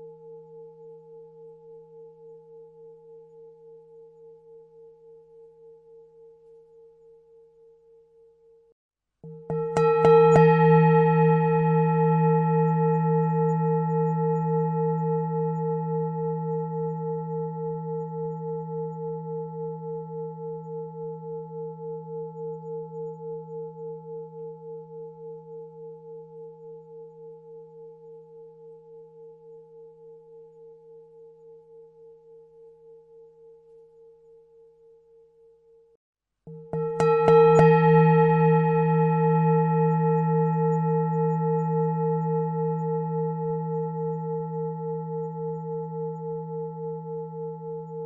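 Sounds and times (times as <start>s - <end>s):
singing bowl ringing: 0.0s - 48.0s.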